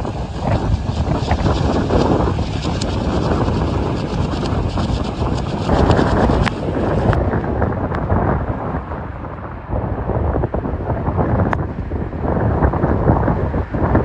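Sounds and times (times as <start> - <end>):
gusting wind on microphone: 0.0 - 14.0.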